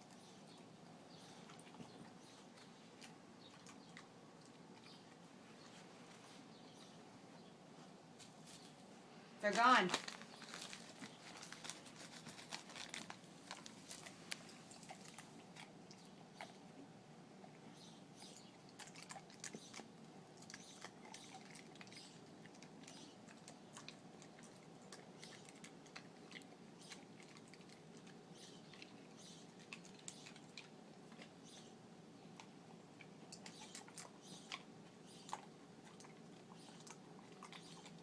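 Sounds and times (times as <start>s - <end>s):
dog chewing and crunching: 0.0s - 6.3s, 9.4s - 38.0s.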